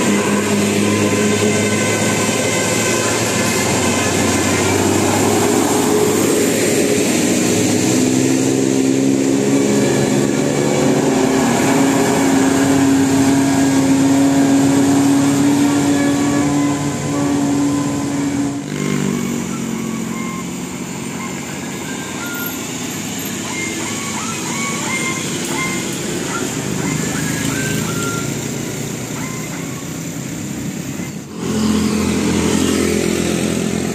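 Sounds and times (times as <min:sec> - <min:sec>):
bus steady pitched sound: 0:00.0 - 0:33.9
road noise: 0:00.0 - 0:33.9.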